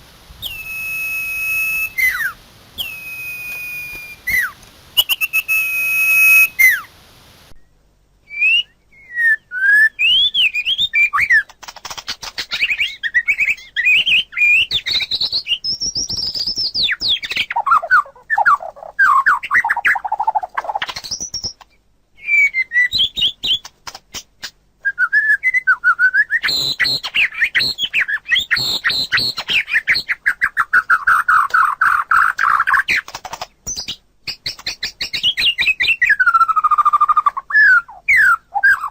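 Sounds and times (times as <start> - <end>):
songbirds whistling phrases: 0.4 - 6.9, 7.6 - 11.5, 12.3 - 21.6, 22.2 - 23.7, 24.8 - 33.0, 33.7 - 38.9.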